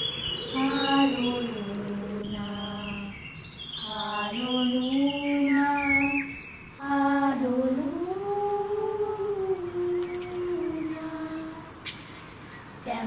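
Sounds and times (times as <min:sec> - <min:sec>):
girls singing wordless melody: 0:00.0 - 0:13.0.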